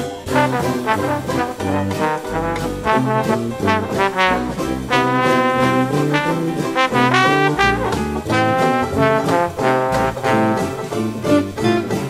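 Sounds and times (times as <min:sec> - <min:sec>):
jazz music with brass: 0:00.0 - 0:12.0.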